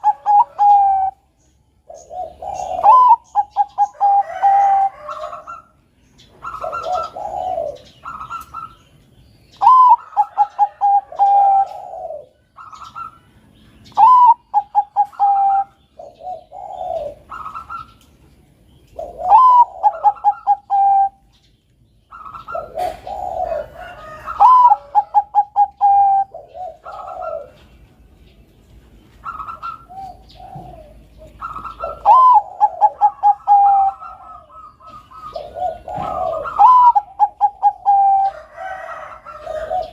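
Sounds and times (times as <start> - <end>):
low dove coos: 0.0 - 8.8, 9.5 - 13.2, 13.8 - 18.1, 18.9 - 21.3, 22.1 - 27.8, 29.2 - 39.9
dove song phrases: 0.0 - 39.9.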